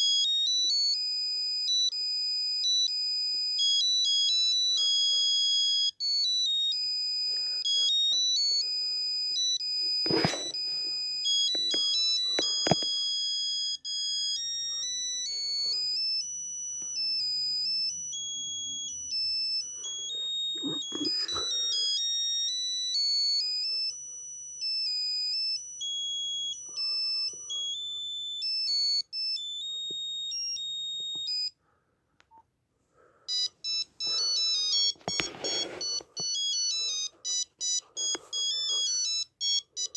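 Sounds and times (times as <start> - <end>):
monophonic ringtone beeps: 0.0 - 31.6, 33.3 - 39.9.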